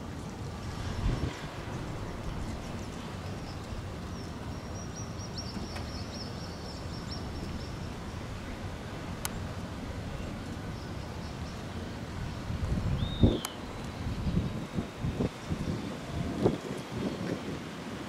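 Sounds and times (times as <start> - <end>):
low outdoor rumble: 0.0 - 17.6.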